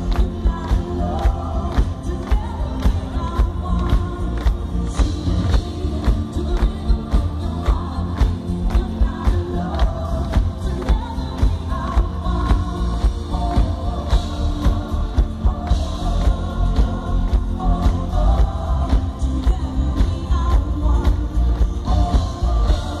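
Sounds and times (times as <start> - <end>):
live band playing: 0.0 - 23.0
person singing: 0.0 - 23.0
drum beat: 0.1 - 23.0.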